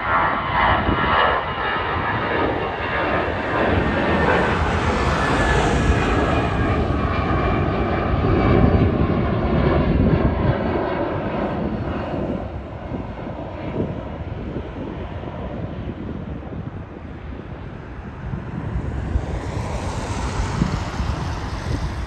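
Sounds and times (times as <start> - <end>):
jet airliner passing: 0.0 - 22.0.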